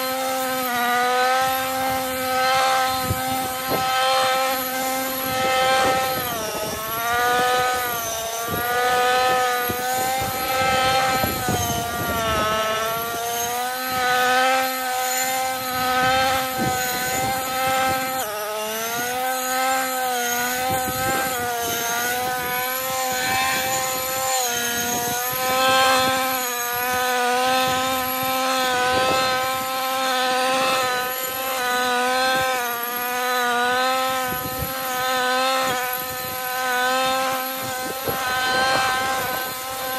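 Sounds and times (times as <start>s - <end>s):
brushcutter engine cutting: 0.0s - 39.9s.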